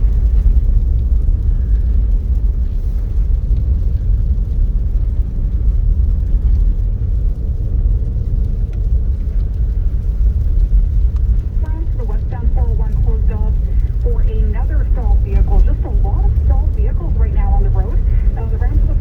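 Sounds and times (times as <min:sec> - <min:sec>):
car driving on snowy road: 0:00.0 - 0:19.0.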